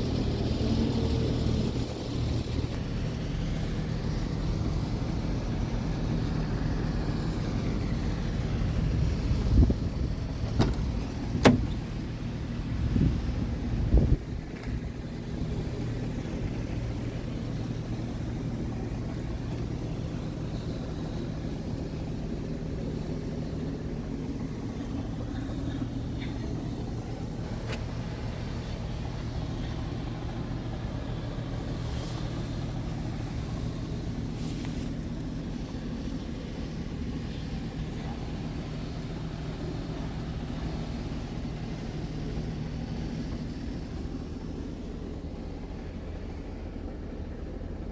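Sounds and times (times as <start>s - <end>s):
truck diesel engine idling: 0.0s - 47.9s.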